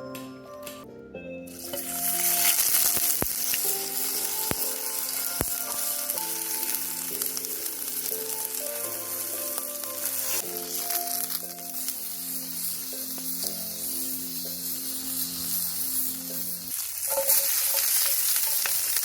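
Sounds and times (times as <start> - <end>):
background music: 0.0 - 18.8
steak sizzling over fire: 1.5 - 19.0.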